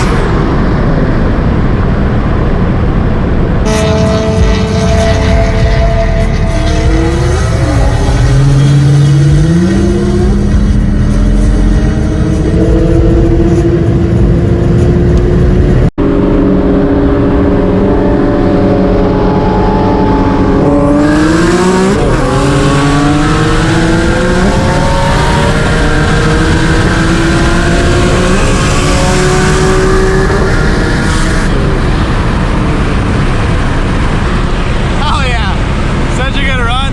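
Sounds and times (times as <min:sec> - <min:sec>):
car engine revving under boost: 0:03.4 - 0:35.0
gear change: 0:03.6 - 0:35.0.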